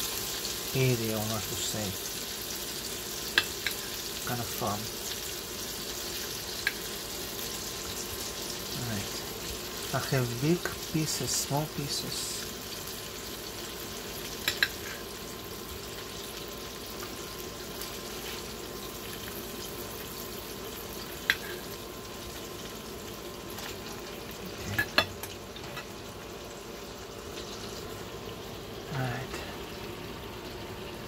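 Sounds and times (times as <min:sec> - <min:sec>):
butter and meat sizzling: 0:00.0 - 0:31.0.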